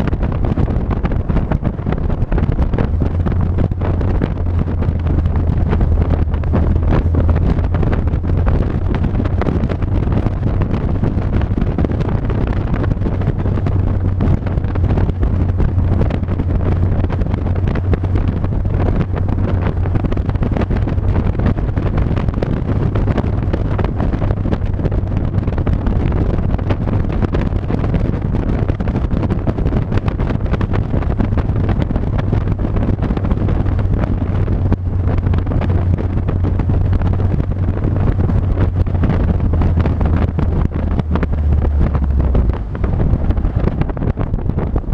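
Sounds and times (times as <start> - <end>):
road noise: 0.0 - 44.9
vehicle engine drone: 0.0 - 44.9
wind buffeting microphone: 0.0 - 44.9.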